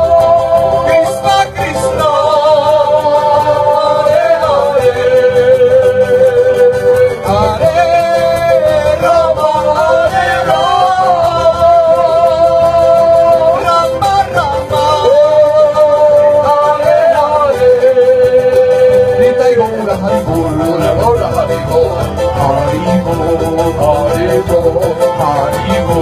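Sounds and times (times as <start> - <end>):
hand drum: 0.0 - 26.0
men singing: 0.0 - 26.0
strummed string instruments: 0.0 - 26.0.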